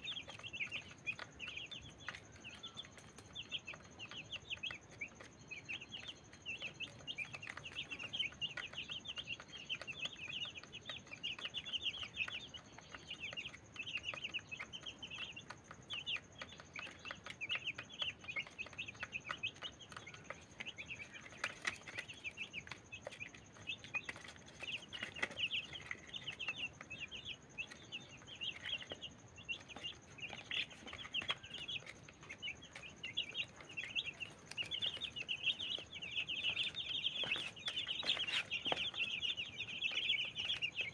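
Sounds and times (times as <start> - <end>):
beaks pecking on plastic tray: 0.0 - 40.9
chicks peeping: 0.0 - 40.9.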